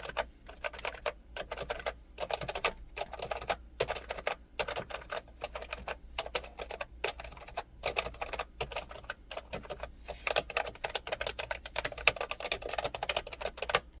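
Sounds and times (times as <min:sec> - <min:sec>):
computer keyboard typing: 0:00.0 - 0:14.0.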